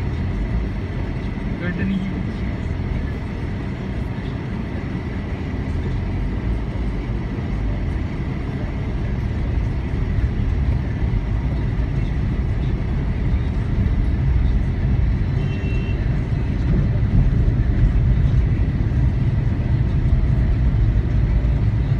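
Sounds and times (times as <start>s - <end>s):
car engine and tyres rumbling: 0.0s - 21.9s.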